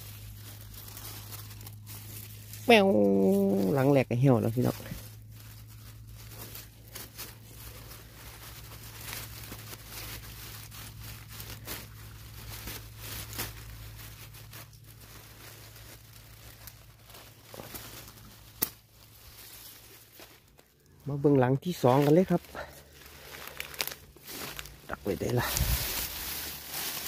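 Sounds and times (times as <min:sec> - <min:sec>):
dry leaves rustling and crackling: 0:00.0 - 0:27.0.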